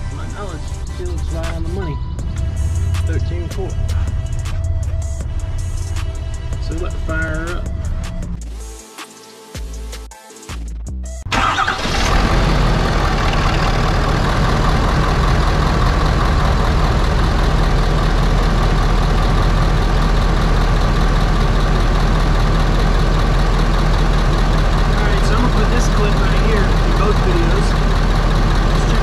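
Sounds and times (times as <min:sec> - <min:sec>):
diesel engine idling: 0:00.0 - 0:08.4, 0:11.3 - 0:29.0.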